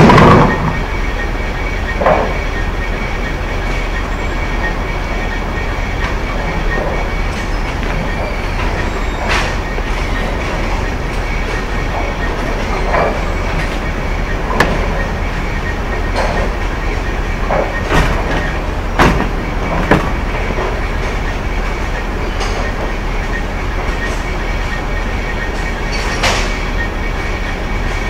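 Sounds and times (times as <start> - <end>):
bowling pins clattering: 0.0 - 24.5
bowling balls rolling: 0.0 - 25.9.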